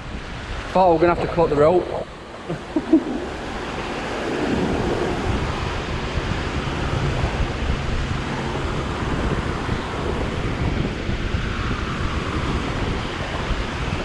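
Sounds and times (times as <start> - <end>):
water rushing from overflow: 0.0 - 14.0
wind noise on microphone: 0.0 - 14.0.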